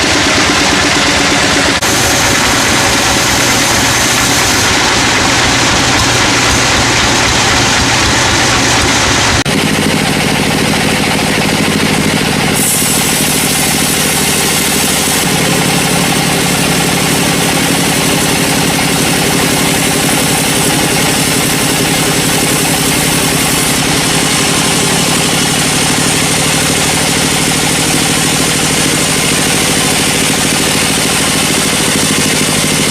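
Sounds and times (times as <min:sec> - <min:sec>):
sawmill machinery running: 0:00.0 - 0:32.9.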